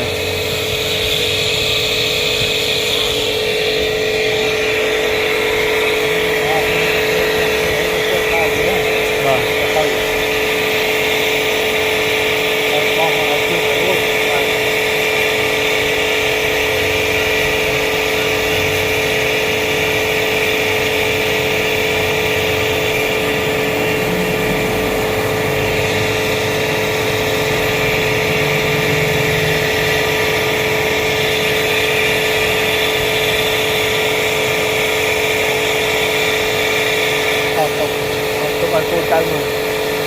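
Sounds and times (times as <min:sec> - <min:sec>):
motor running with whine: 0:00.0 - 0:40.0.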